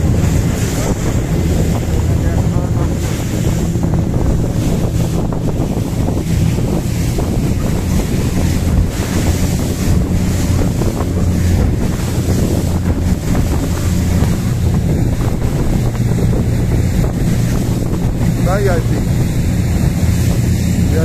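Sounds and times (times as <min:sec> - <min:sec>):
boat engine droning: 0:00.0 - 0:21.0
water rushing past hull: 0:00.0 - 0:21.0
wind buffeting microphone: 0:00.0 - 0:21.0.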